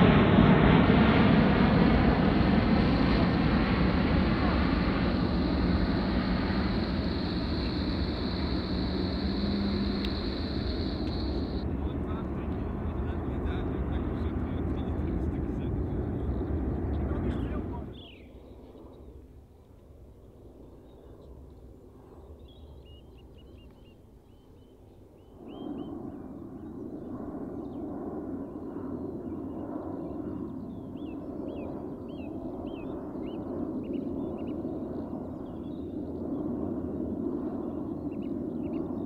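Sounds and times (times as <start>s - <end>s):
distant jet engines rumbling: 0.0s - 39.0s.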